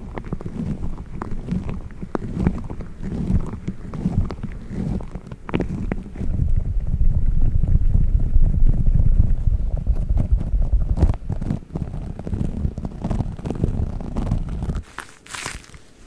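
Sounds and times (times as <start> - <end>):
squishy dog toy rubbing: 0.0 - 16.0.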